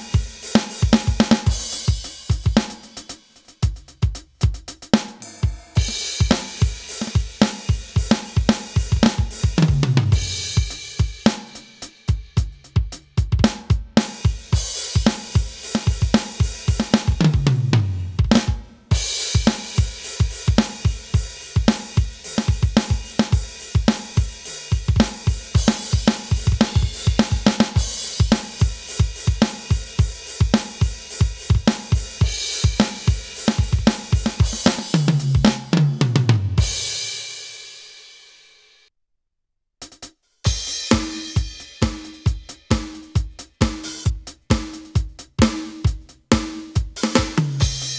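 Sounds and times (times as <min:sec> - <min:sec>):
electronic drum kit beat: 0:00.0 - 0:37.4, 0:39.8 - 0:47.9.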